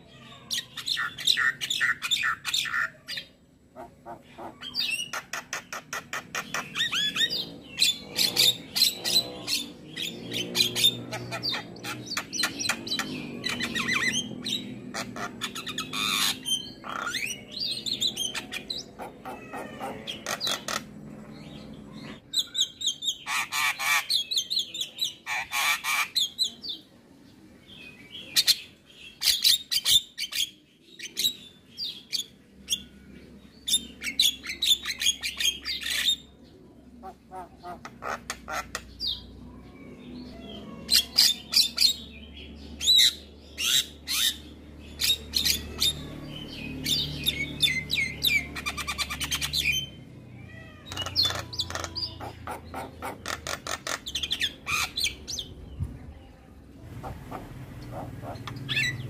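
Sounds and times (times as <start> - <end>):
bird squawking and chirping: 0.0 - 26.8, 33.6 - 55.5, 56.8 - 59.0.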